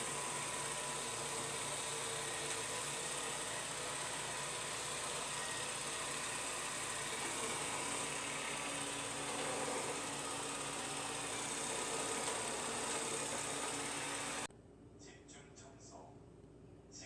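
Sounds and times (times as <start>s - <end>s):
high motor whine: 0.0s - 14.5s
robot vacuum whirring: 0.0s - 14.5s.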